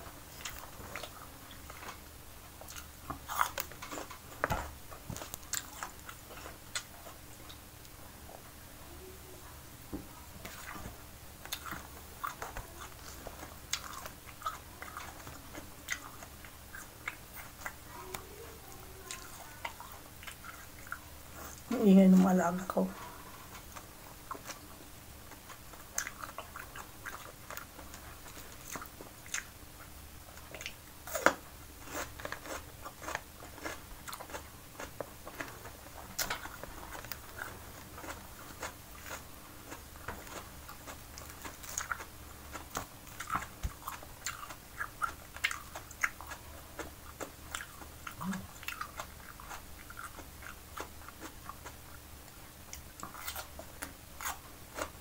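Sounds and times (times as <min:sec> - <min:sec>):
person chewing food: 0:00.0 - 0:08.4, 0:10.4 - 0:21.7, 0:23.0 - 0:55.0.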